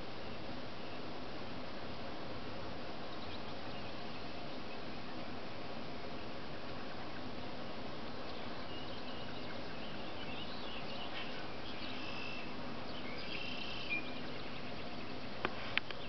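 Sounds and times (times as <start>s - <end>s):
steady hiss: 0.0s - 16.0s
small songbirds chirping: 2.9s - 16.0s.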